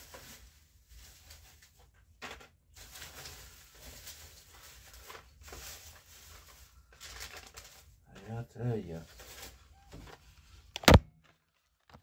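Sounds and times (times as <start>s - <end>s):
rustling handling noise: 0.0s - 12.0s.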